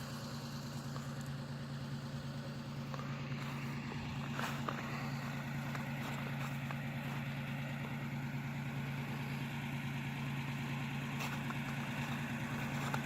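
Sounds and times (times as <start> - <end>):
pickup truck engine idling: 0.0 - 13.0.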